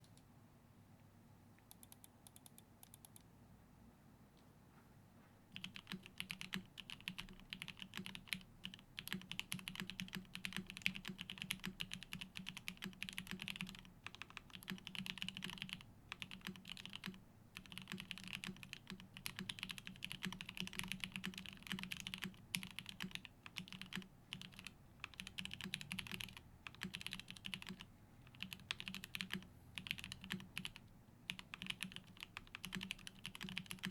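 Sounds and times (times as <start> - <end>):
mechanical keyboard typing: 5.6 - 33.9.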